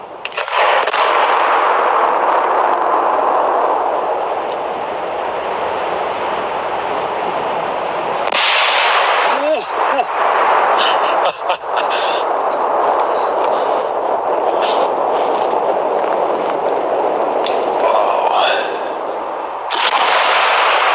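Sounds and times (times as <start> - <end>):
firework rushing hiss: 0.0 - 20.9.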